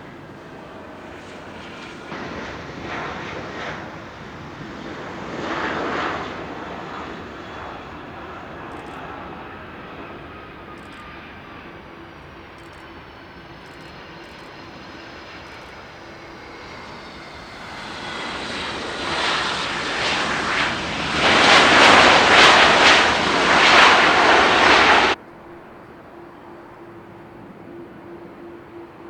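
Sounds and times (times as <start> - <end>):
jet airliner engine roar: 0.0 - 29.0.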